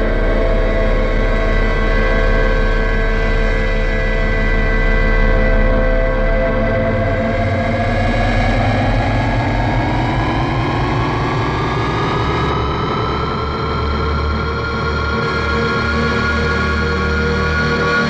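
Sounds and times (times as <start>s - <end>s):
electronic hum over low drone: 0.0s - 18.0s.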